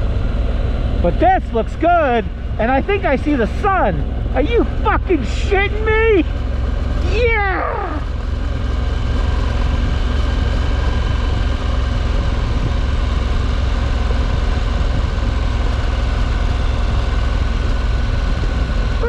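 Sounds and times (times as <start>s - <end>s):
motorcycle engine cruising: 0.0s - 19.0s
wind and road noise rumble: 0.0s - 19.0s.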